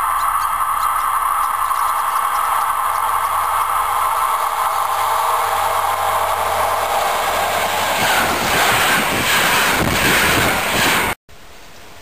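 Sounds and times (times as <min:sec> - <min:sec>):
train approaching drone: 0:00.0 - 0:11.2
train passing rumble: 0:00.0 - 0:11.2
wheel clatter over rail joints: 0:00.0 - 0:11.2.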